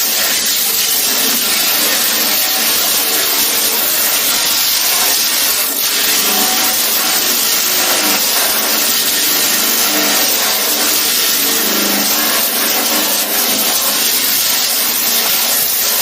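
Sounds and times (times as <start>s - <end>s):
grinder grinding steel panel: 0.0s - 16.0s.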